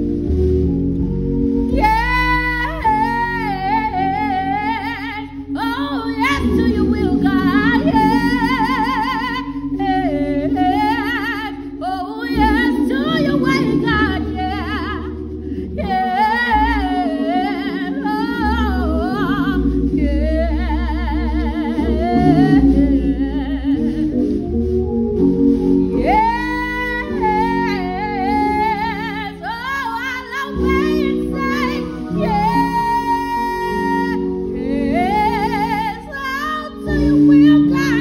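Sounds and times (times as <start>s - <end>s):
held low chords: 0.0s - 38.0s
woman singing with vibrato: 1.7s - 24.6s, 25.7s - 38.0s.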